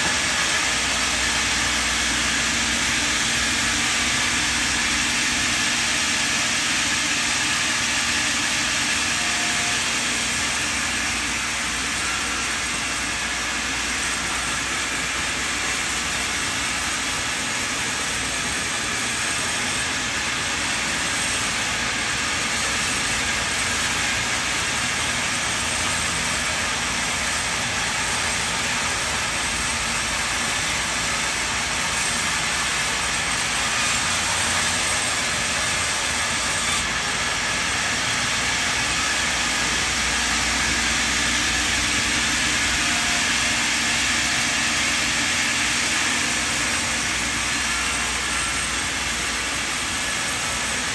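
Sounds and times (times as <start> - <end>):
band saw ripping timber: 0.0 - 50.9.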